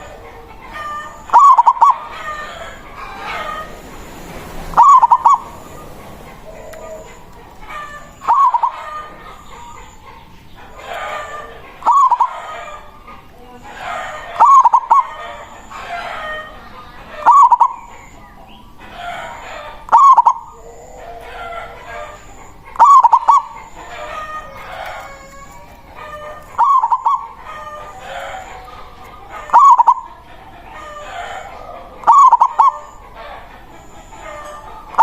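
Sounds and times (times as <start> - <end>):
faint bird calls: 0.0 - 13.5, 14.3 - 30.2, 32.0 - 35.0
dove cooing: 0.0 - 35.0.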